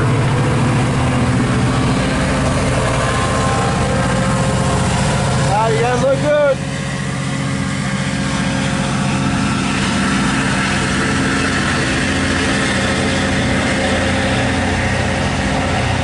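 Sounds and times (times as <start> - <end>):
locomotive engine drone: 0.0 - 16.0
train noise: 0.0 - 16.0.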